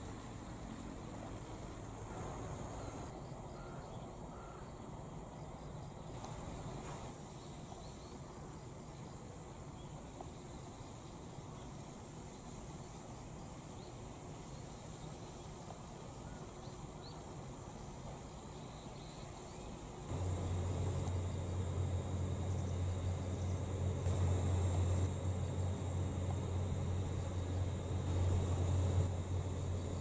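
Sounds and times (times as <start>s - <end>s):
insects chirping: 0.0s - 30.0s
low mechanical hum: 0.0s - 30.0s.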